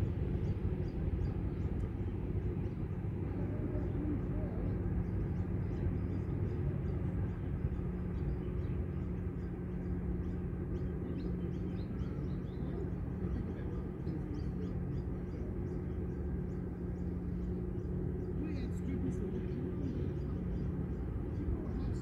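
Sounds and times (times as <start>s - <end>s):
constant hum: 0.0s - 22.0s.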